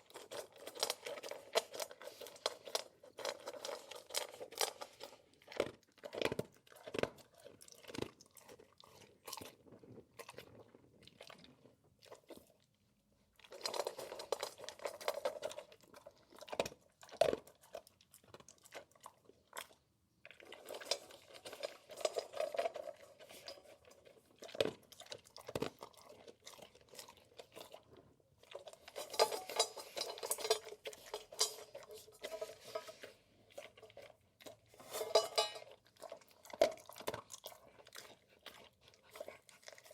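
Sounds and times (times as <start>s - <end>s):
dog crunching and chewing food: 0.0s - 39.9s.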